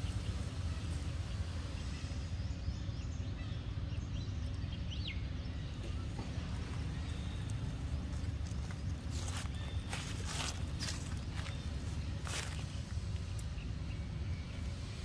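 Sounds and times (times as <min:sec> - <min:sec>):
faint bird chirps: 0:00.0 - 0:15.0
steady low rumble: 0:00.0 - 0:15.0.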